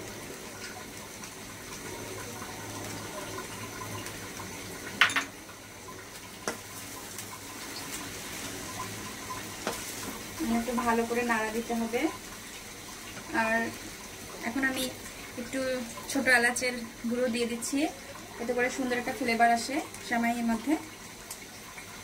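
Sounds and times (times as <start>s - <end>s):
pan hissing on gas burner: 0.0s - 22.0s.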